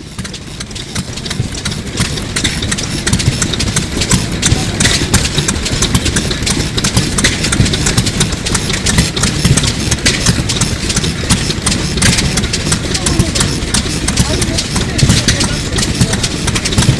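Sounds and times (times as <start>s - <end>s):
engine rumbling with ticks: 0.0s - 16.9s.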